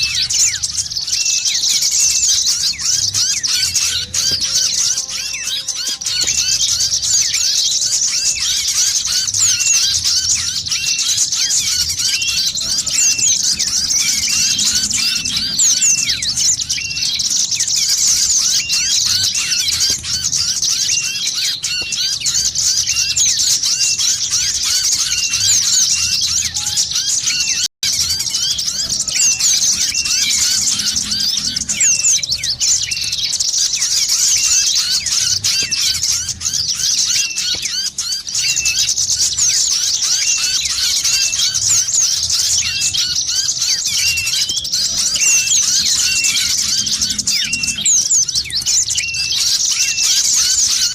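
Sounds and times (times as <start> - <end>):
repeating bird chirp: 0.0 - 50.9
small birds twittering: 0.0 - 50.9.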